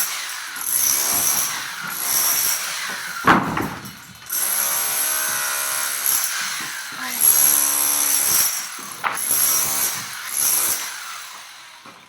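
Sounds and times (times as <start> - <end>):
power tool motor working wood: 0.1 - 12.0.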